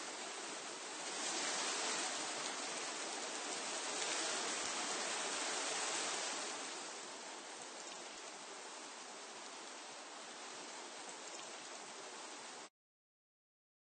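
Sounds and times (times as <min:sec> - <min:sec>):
wind rustling leaves: 0:00.0 - 0:12.7.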